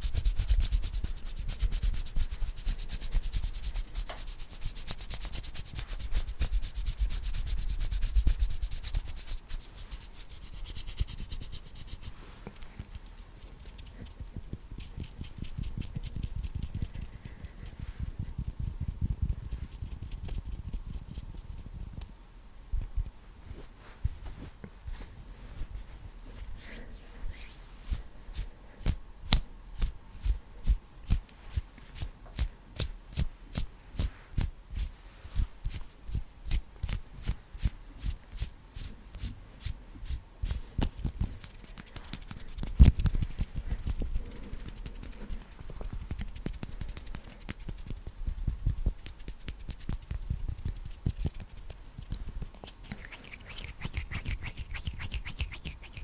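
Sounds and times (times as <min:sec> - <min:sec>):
hands rubbing: 0:00.0 - 0:13.0, 0:23.4 - 0:56.0.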